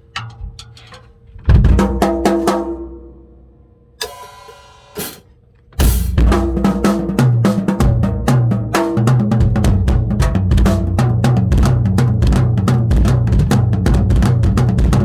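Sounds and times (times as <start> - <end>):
drum kit playing: 1.5 - 3.0, 4.0 - 15.0.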